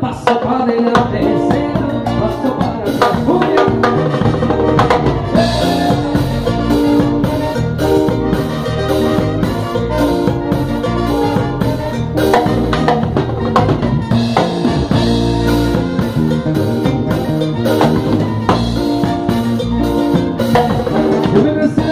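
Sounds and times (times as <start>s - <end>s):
drum kit and percussion: 0.0s - 21.9s
salsa band playing: 0.0s - 21.9s.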